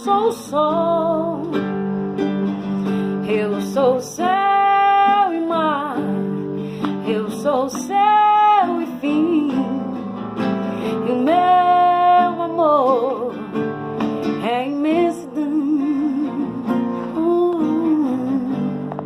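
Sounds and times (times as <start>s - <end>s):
person singing: 0.0s - 1.9s, 2.6s - 13.6s, 14.3s - 19.0s
strummed acoustic guitar: 0.0s - 19.0s.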